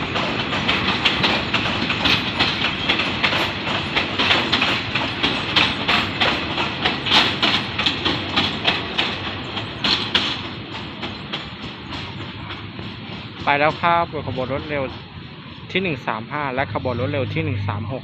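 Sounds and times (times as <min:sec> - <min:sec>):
train wheels clacking on rail joints: 0:00.0 - 0:17.0
train rumble: 0:00.0 - 0:18.0.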